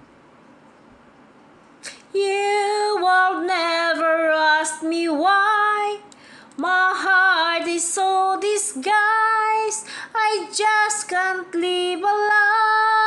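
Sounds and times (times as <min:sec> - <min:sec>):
woman singing a ballad: 0:01.8 - 0:13.0.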